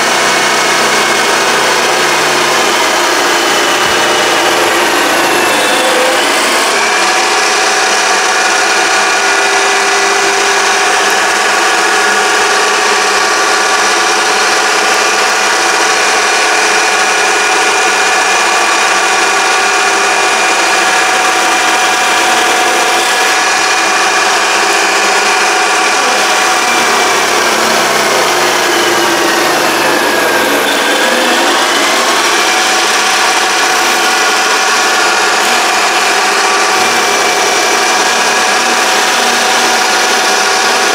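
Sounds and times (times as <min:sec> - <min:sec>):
lathe motor whining: 0:00.0 - 0:40.9.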